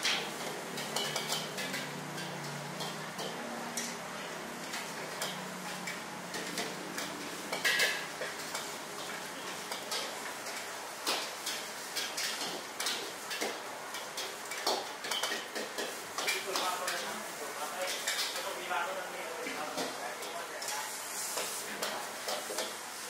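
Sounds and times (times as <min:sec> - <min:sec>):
gas flame and frying hiss: 0:00.0 - 0:23.0.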